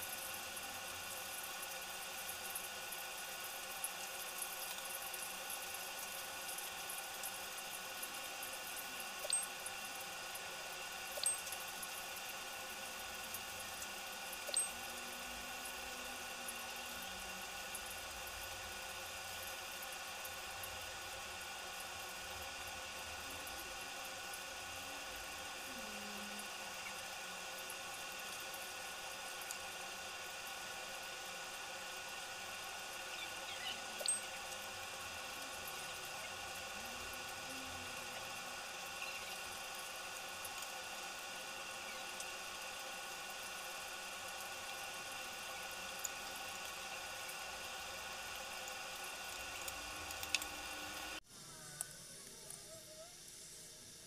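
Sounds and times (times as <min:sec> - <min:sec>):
background hiss and hum: 0:00.0 - 0:54.0.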